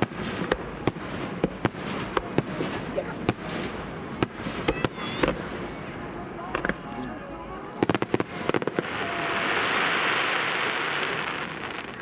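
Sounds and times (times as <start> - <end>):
firework bangs: 0.0 - 12.0
firework crackle and rumble: 0.0 - 12.0.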